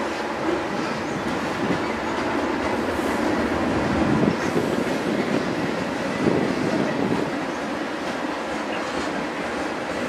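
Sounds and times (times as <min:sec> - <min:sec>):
freight train passing: 0:00.0 - 0:10.0.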